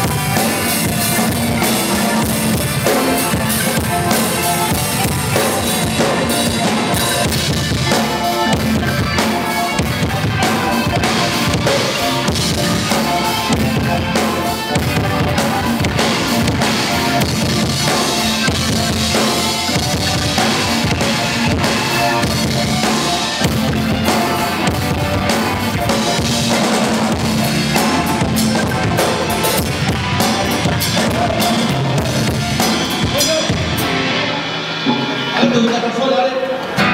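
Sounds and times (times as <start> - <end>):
bass guitar: 0.0 - 36.9
drum kit: 0.0 - 36.9
electric guitars: 0.0 - 36.9
keyboard: 0.0 - 36.9.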